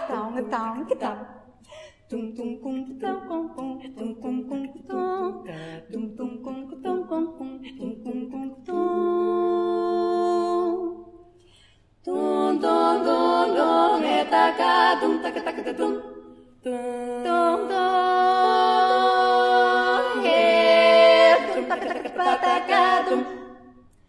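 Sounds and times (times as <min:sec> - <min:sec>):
women singing in harmony: 0:02.1 - 0:11.2, 0:12.0 - 0:23.8.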